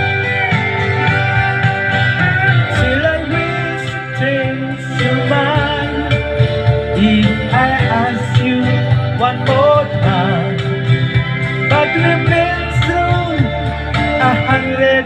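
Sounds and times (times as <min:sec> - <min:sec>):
guitar country folk music: 0:00.0 - 0:15.0.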